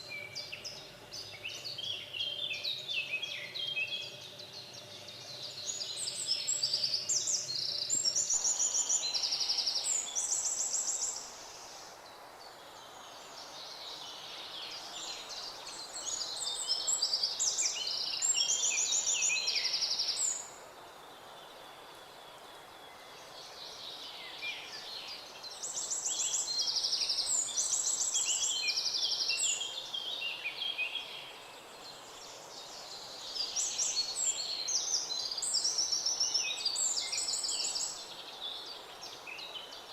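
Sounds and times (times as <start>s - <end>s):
songbird singing trills: 0.0s - 12.0s, 12.8s - 20.6s, 22.9s - 39.9s
soft background hiss: 0.0s - 39.9s.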